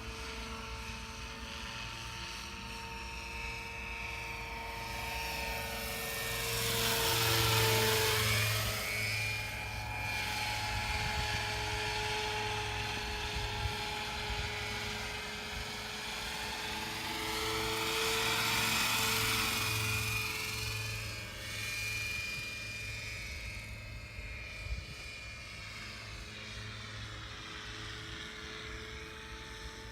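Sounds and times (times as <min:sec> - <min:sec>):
model helicopter rotor whine: 0:00.0 - 0:29.9.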